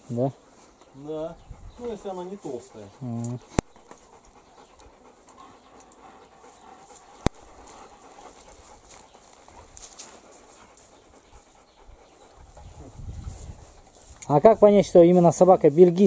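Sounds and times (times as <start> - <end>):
dogs panting: 0.0 - 16.0.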